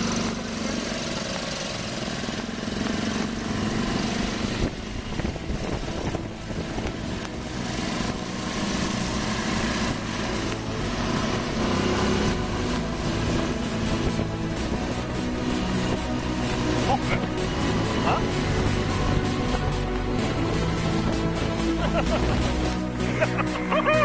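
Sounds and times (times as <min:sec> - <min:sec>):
buggy engine running: 0:00.0 - 0:24.0.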